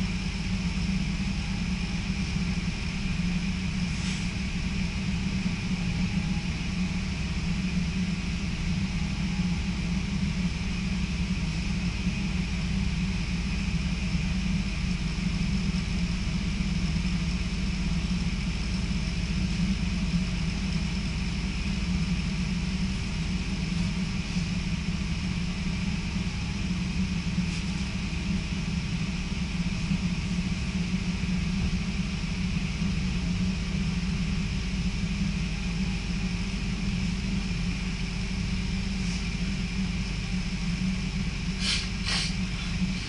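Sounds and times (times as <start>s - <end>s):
faint constant hum: 0.0s - 43.0s
train rumble inside carriage: 0.0s - 43.0s.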